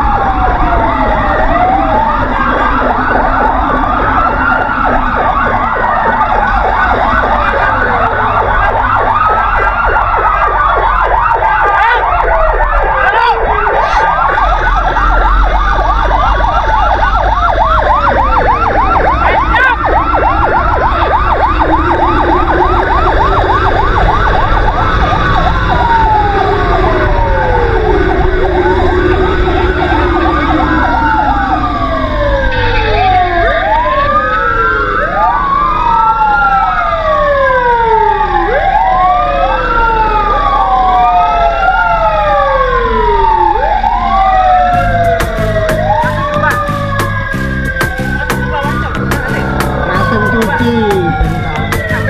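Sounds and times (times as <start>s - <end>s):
rapid yelping siren sweep: 0.0s - 52.0s
sirens wailing: 0.0s - 52.0s.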